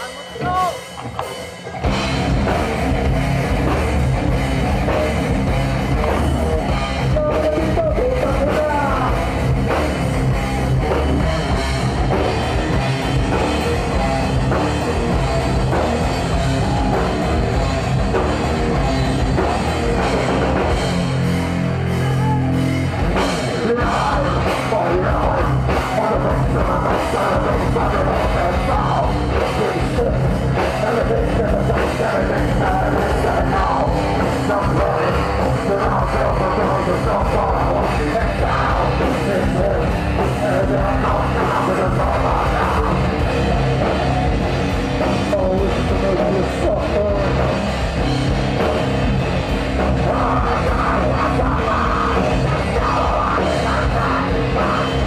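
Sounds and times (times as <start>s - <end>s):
distorted electric guitars: 0.0s - 55.0s
drum kit: 0.0s - 55.0s
person singing: 3.7s - 10.0s, 10.8s - 47.7s, 49.7s - 55.0s.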